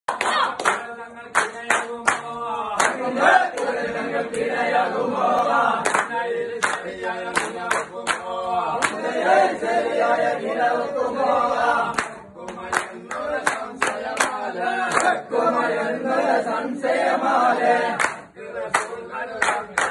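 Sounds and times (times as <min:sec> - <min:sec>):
hands clapping to rhythm: 0:00.1 - 0:19.9
men singing together: 0:00.3 - 0:19.9.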